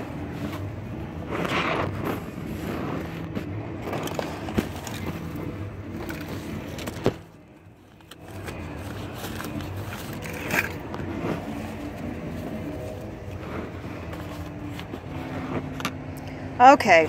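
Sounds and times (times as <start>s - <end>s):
low hum of vehicle engines: 0.0s - 17.0s.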